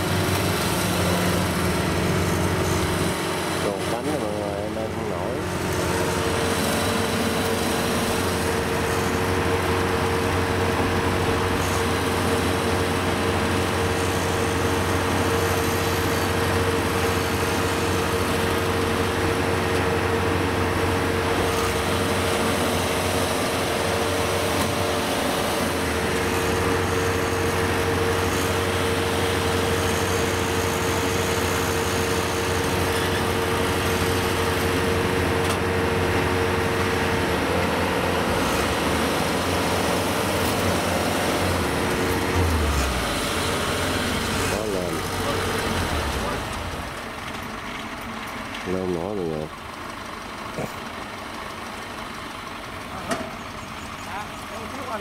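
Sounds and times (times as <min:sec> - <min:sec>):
diesel engines running steadily: 0:00.0 - 0:55.0.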